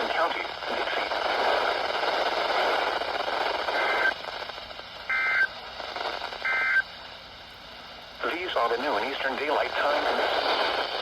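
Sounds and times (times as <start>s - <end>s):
radio hiss: 0.0s - 7.3s, 8.2s - 11.0s.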